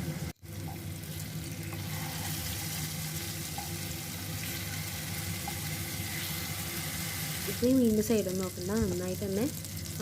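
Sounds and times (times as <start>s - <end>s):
fish sizzling in frying pan: 0.4s - 10.0s.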